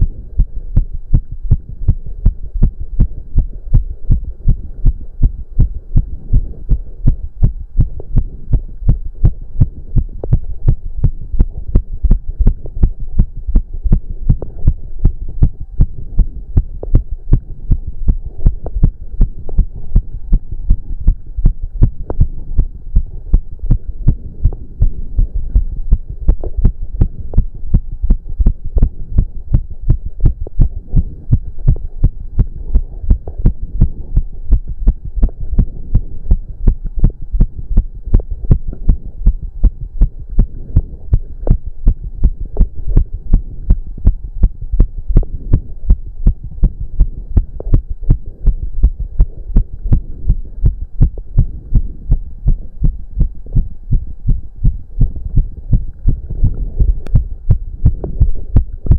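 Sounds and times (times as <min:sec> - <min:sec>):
faint steady hum: 0:00.0 - 0:58.9
heart beating fast: 0:00.0 - 0:58.9.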